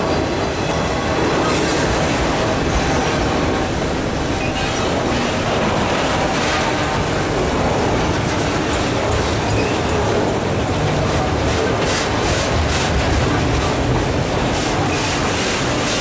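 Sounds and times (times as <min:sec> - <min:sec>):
freight cars rumbling on rails: 0:00.0 - 0:16.0.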